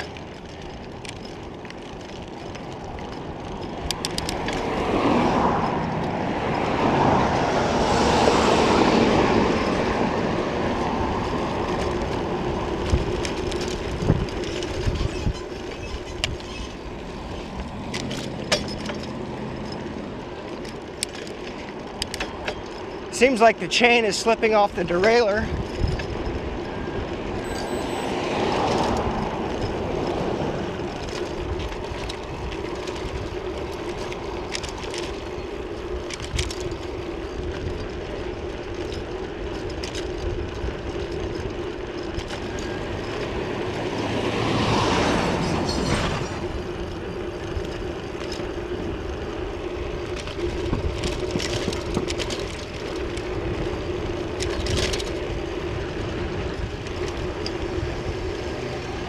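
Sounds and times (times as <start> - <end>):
bicycle road noise: 0.0 - 59.0
vehicle passing: 1.9 - 14.8, 16.7 - 38.6, 40.1 - 59.0
wind noise: 2.7 - 20.2, 24.1 - 48.4, 49.9 - 59.0.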